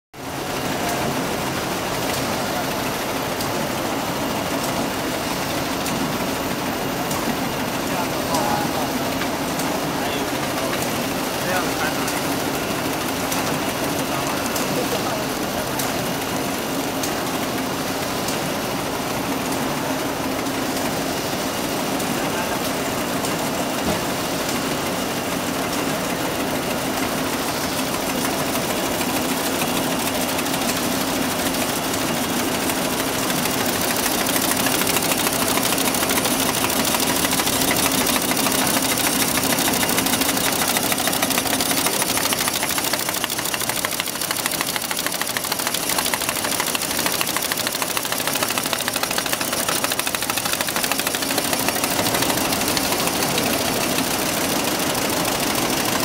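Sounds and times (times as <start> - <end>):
folder gluer machine running: 0.2 - 56.0.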